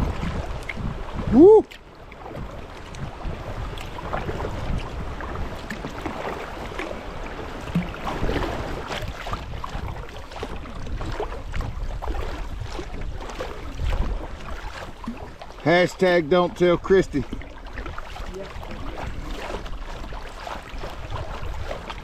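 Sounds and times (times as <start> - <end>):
wind on microphone: 0.0 - 15.5, 17.1 - 22.0
paddle splashing in water: 0.0 - 22.0.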